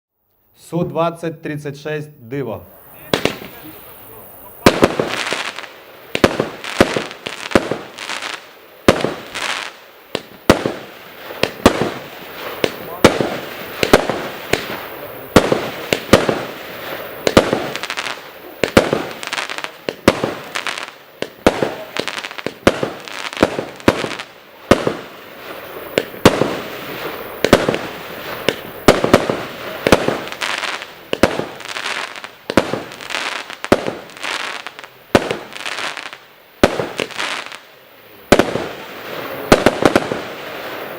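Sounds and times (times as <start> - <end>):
firework cake bangs: 3.0 - 3.8, 4.6 - 8.1, 8.8 - 35.8, 36.6 - 37.5, 38.2 - 40.9.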